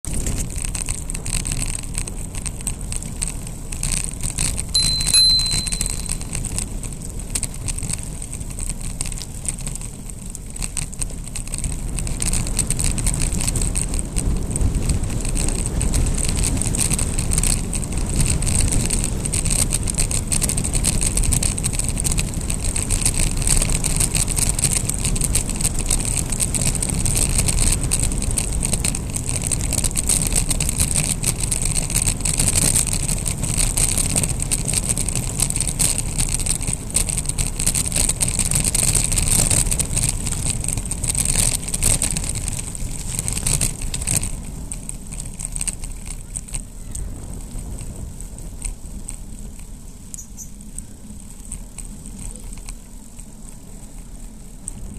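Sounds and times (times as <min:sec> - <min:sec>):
tyres rolling on gravelly asphalt: 0:00.0 - 0:54.9
bike clicks and rattles: 0:00.1 - 0:54.9.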